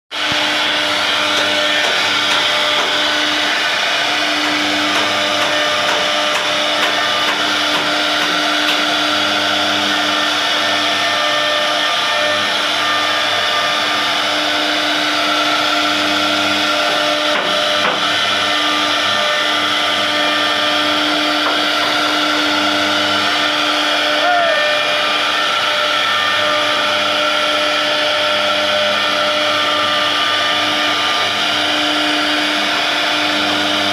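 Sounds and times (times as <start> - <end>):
router spindle whine: 0.1 - 33.9.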